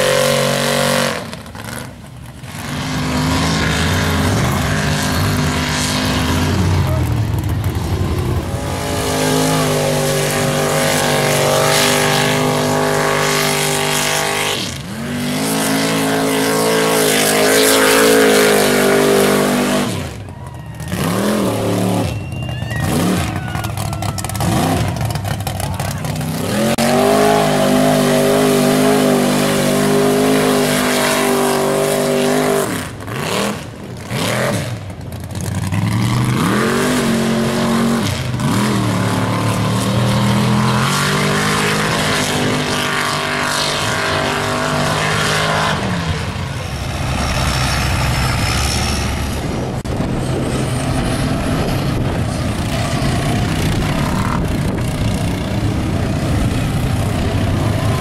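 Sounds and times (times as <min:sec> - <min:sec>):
truck engines revving high: 0:00.0 - 0:58.0.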